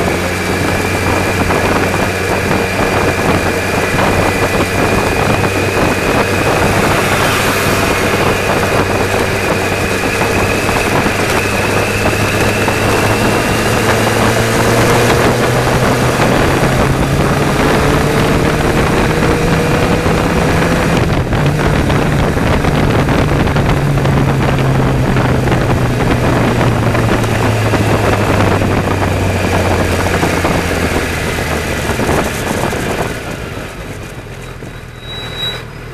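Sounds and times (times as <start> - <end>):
car engine hum: 0.0 - 35.9.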